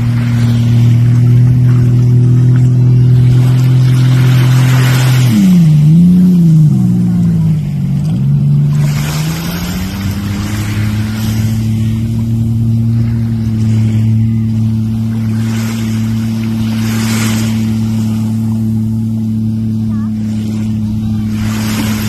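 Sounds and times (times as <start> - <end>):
jet ski engine droning: 0.0 - 22.0.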